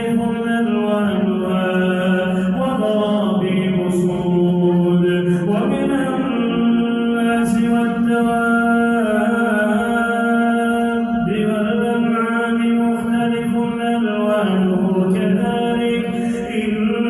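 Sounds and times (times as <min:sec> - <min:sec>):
man chanting melodically: 0:00.0 - 0:17.0.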